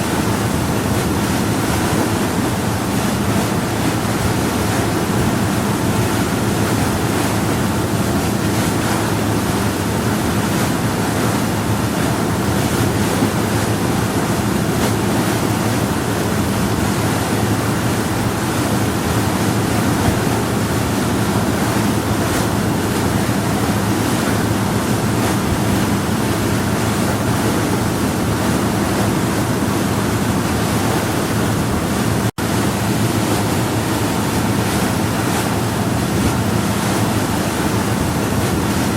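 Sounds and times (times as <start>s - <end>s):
water rushing along hull: 0.0s - 38.9s
wind: 0.0s - 38.9s.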